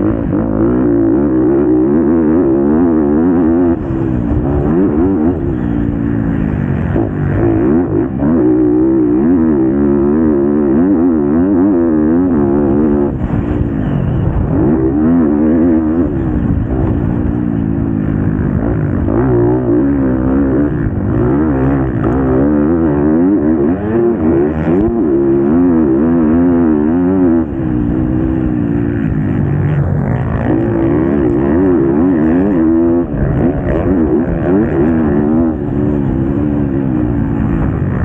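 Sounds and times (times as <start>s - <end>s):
motocross bike engine revving: 0.0s - 38.0s.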